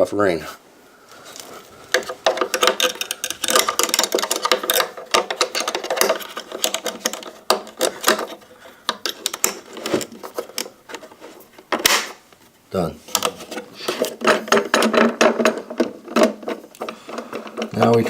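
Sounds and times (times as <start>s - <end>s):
metal hardware clicking and knocking: 1.9s - 12.1s, 13.1s - 18.0s.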